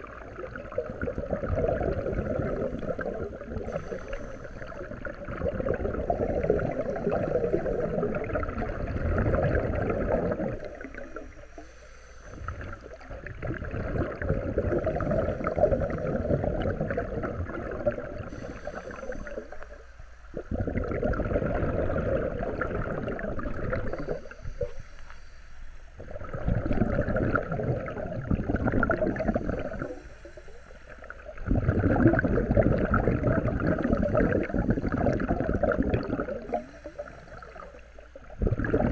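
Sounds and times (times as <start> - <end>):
gurgling exhaust bubbles: 0.0 - 11.4, 12.4 - 19.6, 20.3 - 24.5, 26.0 - 30.0, 31.1 - 38.9.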